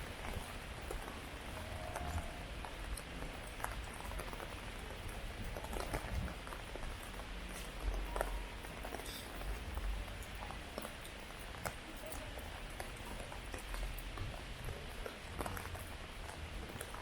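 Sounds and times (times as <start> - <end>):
close raindrops ticking: 0.0 - 17.0.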